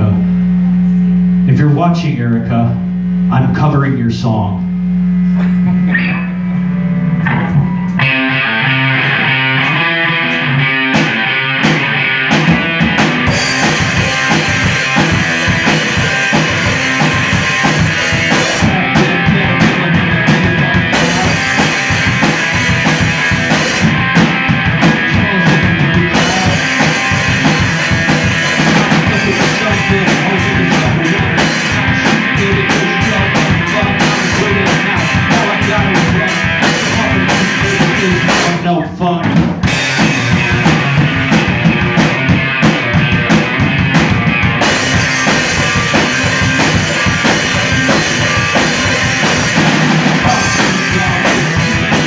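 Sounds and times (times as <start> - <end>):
rock band playing: 4.7 - 52.0
drums and cymbals: 5.2 - 52.0
repeating guitar riff: 5.8 - 38.6, 39.6 - 52.0.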